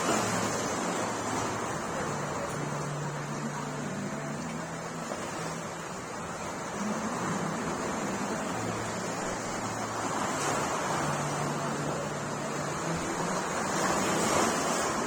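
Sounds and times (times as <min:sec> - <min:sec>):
sea waves washing: 0:00.0 - 0:15.0.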